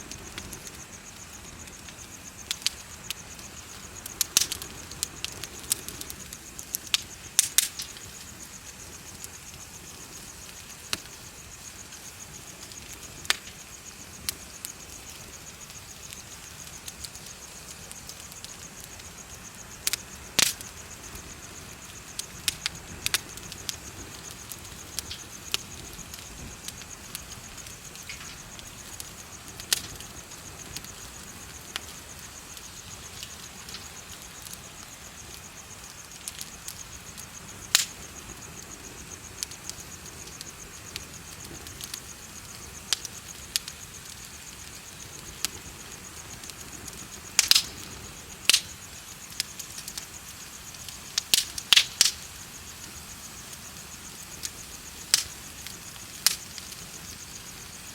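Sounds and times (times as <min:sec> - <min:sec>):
bonfire crackling: 0:00.0 - 0:57.9
insects chirping trill: 0:00.0 - 0:57.9.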